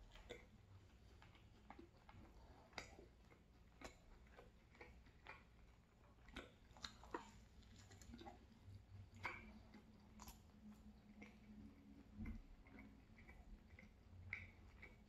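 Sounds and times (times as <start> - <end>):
faint closed-mouth chewing: 0.0 - 15.0.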